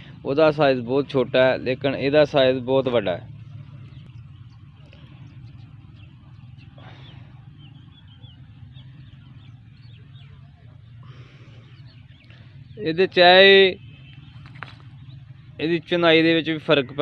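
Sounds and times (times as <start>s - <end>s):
steady low hum: 0.0s - 16.1s
birds chirping: 0.0s - 17.0s.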